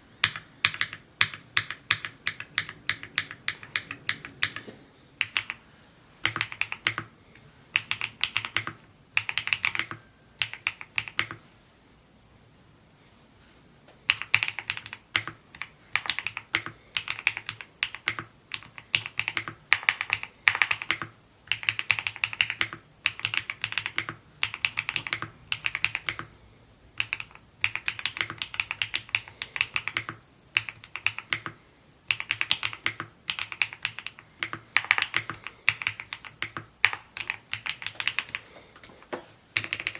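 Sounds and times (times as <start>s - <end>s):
mechanical keyboard typing: 0.2s - 5.6s, 6.2s - 7.1s, 7.8s - 11.4s, 14.0s - 26.3s, 27.0s - 38.4s, 39.6s - 39.9s.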